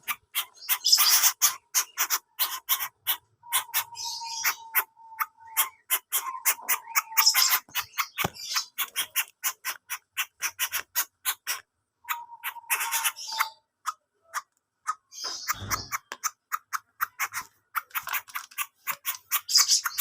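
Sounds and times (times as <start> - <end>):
bird calling with dry clicks: 0.0 - 20.0.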